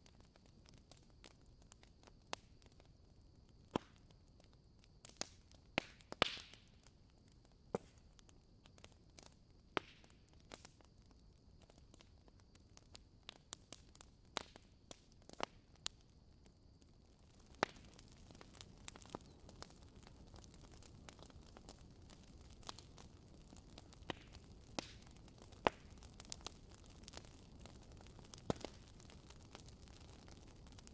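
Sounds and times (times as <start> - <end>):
firewood crackling in fireplace: 0.0 - 30.9.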